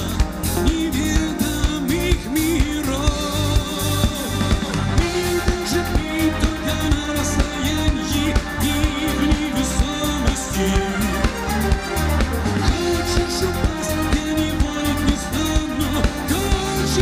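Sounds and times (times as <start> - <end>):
man singing: 0.0 - 17.0
pop-rock band playing: 0.0 - 17.0.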